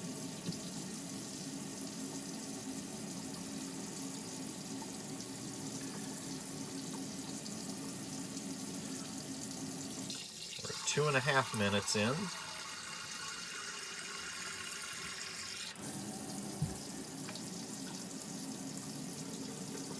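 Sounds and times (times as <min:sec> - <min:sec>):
water running into sink: 0:00.0 - 0:19.9.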